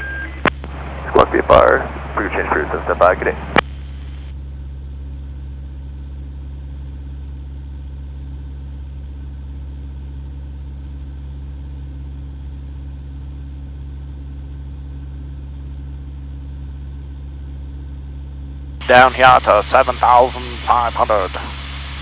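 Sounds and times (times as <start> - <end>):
airplane engine and propeller hum: 0.0 - 22.0.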